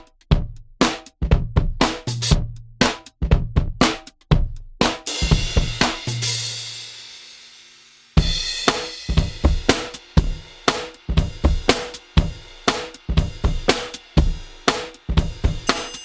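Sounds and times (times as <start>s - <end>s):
drum kit beat: 0.0s - 7.6s, 8.2s - 16.0s.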